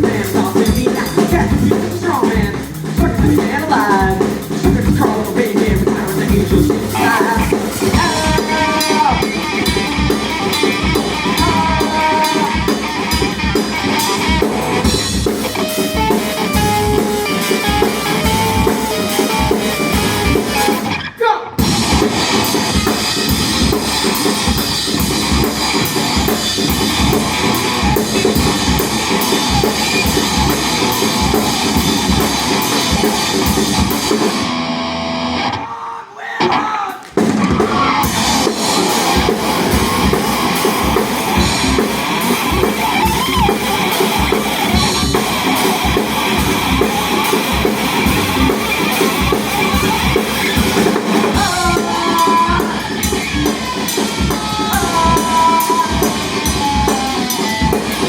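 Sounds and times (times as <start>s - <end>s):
rock band playing: 0.0s - 35.7s, 36.4s - 58.0s.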